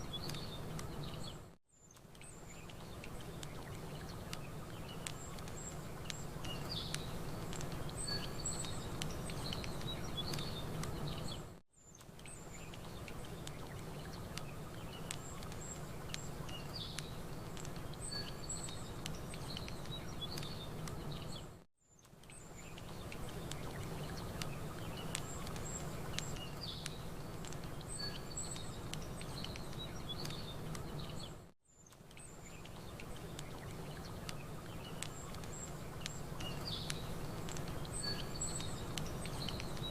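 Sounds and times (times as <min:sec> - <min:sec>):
fire crackling: 0:00.0 - 0:01.3, 0:01.9 - 0:21.4, 0:22.1 - 0:39.9
small birds chirping: 0:00.0 - 0:39.9.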